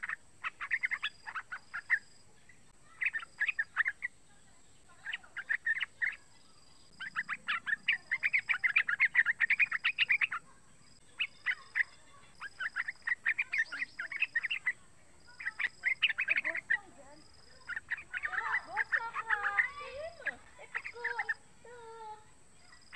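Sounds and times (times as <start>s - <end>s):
bulbul chattering song: 0.0s - 22.9s.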